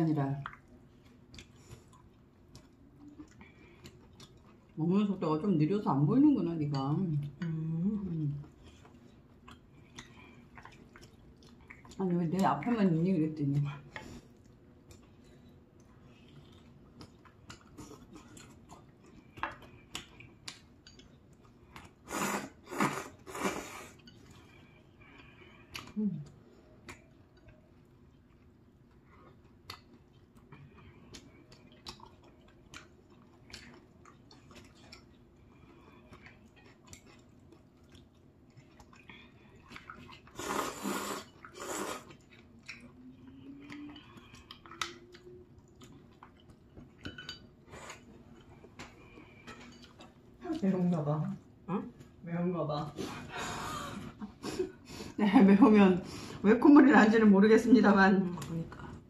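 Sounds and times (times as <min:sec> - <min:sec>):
people chewing noodles: 0:00.1 - 0:52.2, 0:52.9 - 0:56.4, 0:58.2 - 0:59.0.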